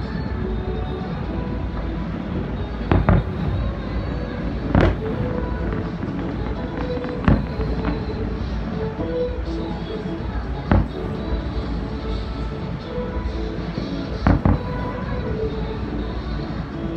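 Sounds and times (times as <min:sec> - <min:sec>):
fireworks rumble and crackle: 0:00.0 - 0:16.9
firework bangs: 0:00.1 - 0:16.8.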